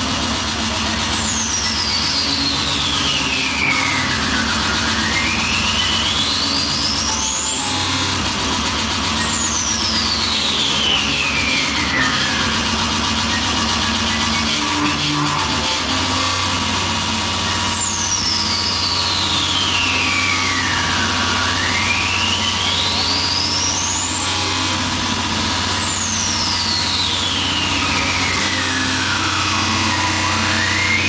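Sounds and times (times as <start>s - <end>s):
harsh electronic music: 0.0s - 31.0s
sweeping high tone: 0.9s - 31.0s.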